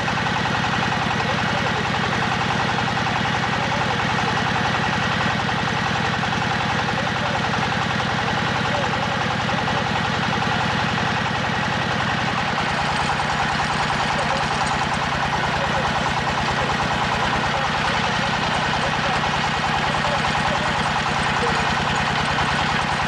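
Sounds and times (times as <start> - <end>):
drilling rig engine pulsing: 0.0 - 23.0.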